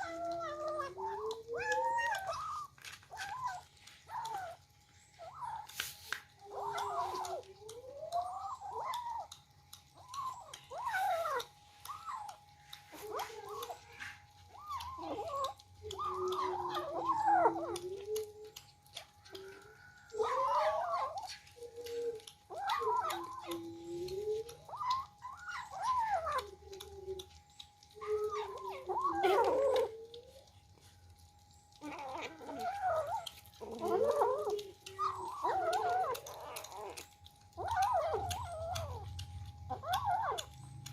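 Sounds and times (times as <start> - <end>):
kittens eating clicks: 0.0 - 40.9
kittens meowing: 0.0 - 40.9.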